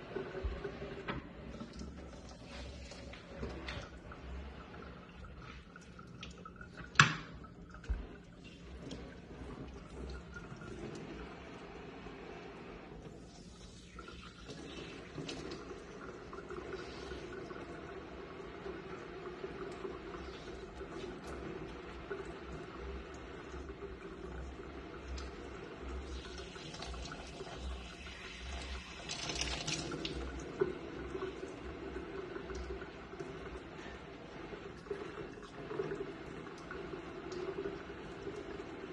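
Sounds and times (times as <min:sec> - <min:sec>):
water splashing in metal sink: 0:00.0 - 0:38.9.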